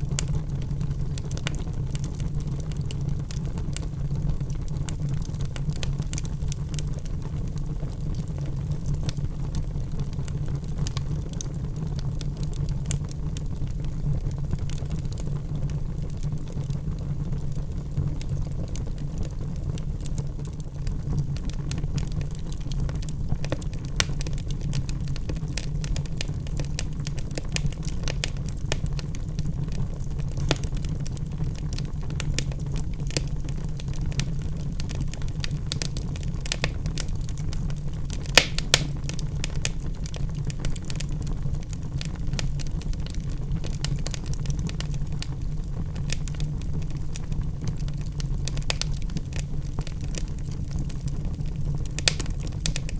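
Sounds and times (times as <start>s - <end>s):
fire popping: 0.0s - 52.9s
logs burning in fireplace: 0.0s - 52.9s.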